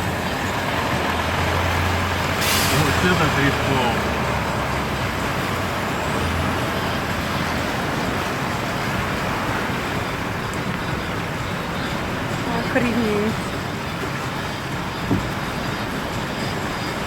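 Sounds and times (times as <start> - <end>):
car engine low hum: 0.0 - 17.0
water rushing around car: 0.0 - 17.0.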